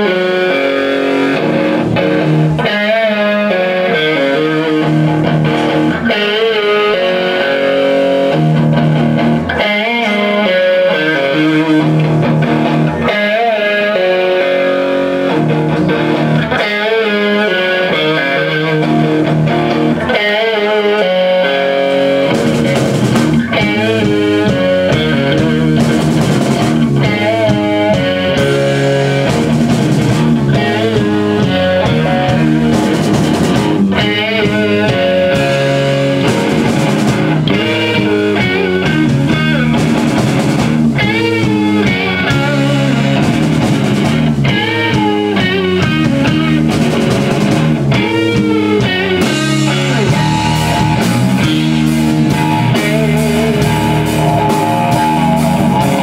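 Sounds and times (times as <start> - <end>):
band accompaniment: 0.0 - 56.0
bluesy electric guitar: 0.0 - 56.0.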